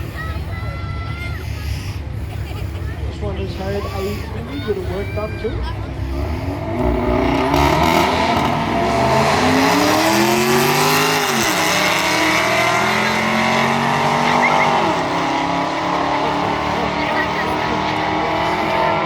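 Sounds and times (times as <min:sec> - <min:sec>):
cars accelerating hard: 0:02.0 - 0:19.0.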